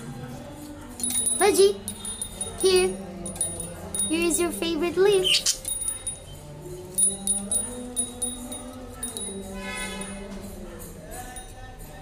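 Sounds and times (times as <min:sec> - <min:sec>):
soft background music: 0:00.0 - 0:12.0
small bell jingling: 0:00.9 - 0:12.0.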